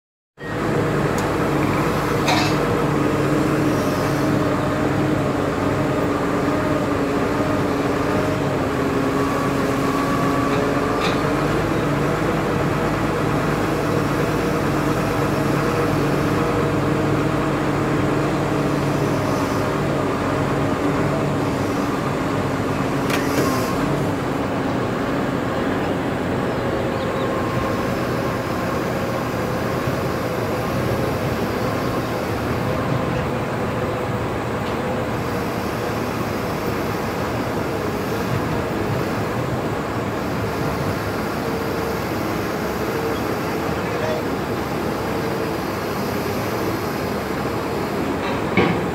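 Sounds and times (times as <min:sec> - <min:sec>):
crane engine humming: 0:00.4 - 0:48.9.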